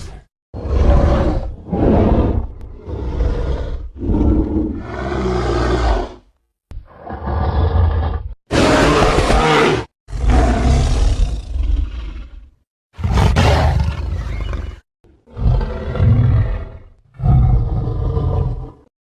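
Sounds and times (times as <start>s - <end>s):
giant ape roar: 0.0s - 6.3s, 6.9s - 18.9s.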